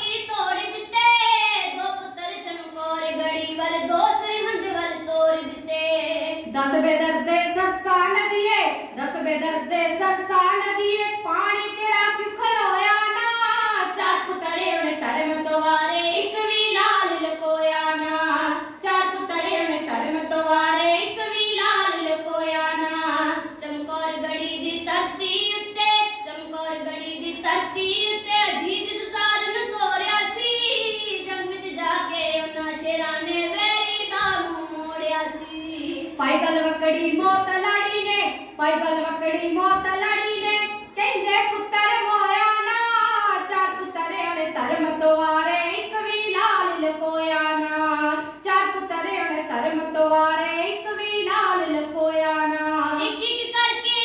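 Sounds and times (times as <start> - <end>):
girls singing folk verse: 8.9 - 53.9.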